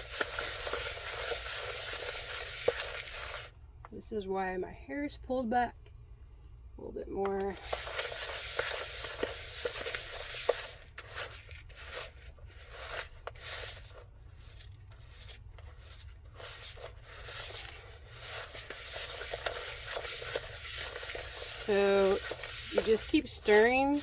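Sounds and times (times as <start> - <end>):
spoon stirring stiff mix: 0.0 - 3.5, 7.4 - 24.0.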